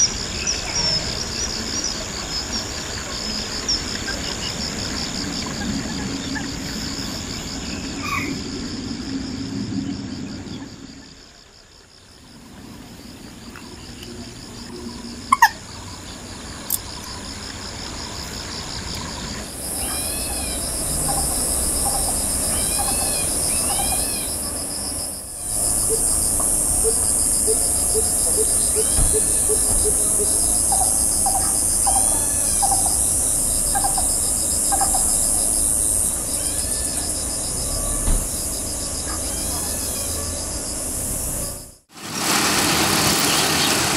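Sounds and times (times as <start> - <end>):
high insect hiss: 0.0 - 42.4
pulsing insect trill: 0.0 - 42.4.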